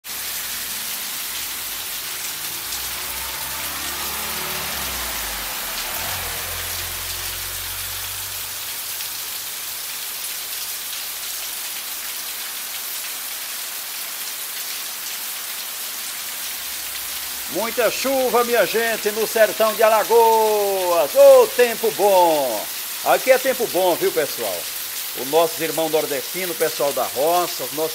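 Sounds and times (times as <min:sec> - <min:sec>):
heavy rain on pavement: 0:00.0 - 0:27.9
car driving past on wet road: 0:00.1 - 0:12.0, 0:15.5 - 0:27.9.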